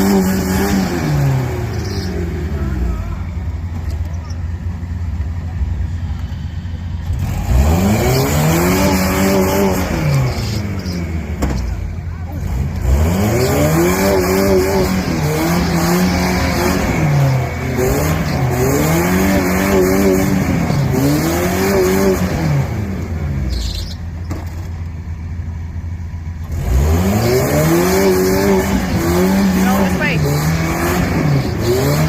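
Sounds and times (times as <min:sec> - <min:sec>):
engine revving up and down: 0:00.0 - 0:03.2, 0:07.0 - 0:24.0, 0:26.4 - 0:32.0.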